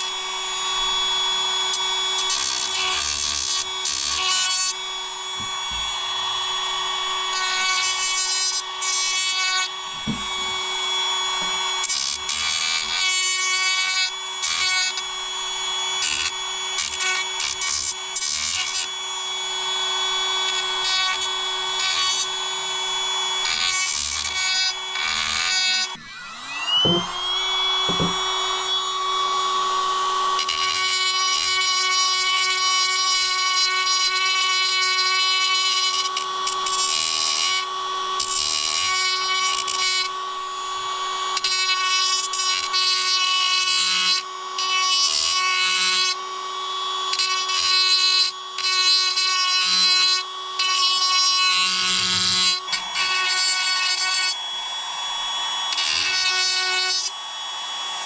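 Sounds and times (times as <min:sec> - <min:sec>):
power tool motor whine: 0:00.0 - 0:58.0.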